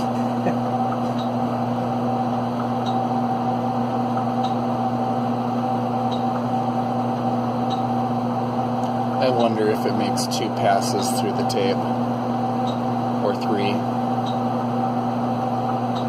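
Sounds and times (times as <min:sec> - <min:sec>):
computer machine hum: 0:00.0 - 0:16.0.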